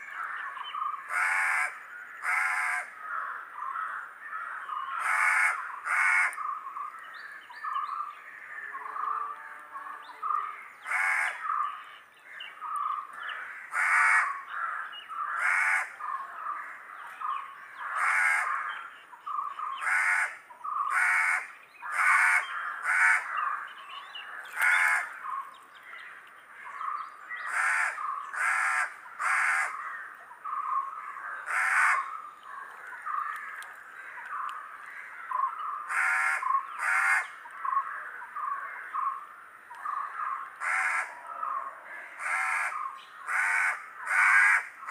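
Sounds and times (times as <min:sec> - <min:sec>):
harsh bird calls: 0:00.0 - 0:44.9.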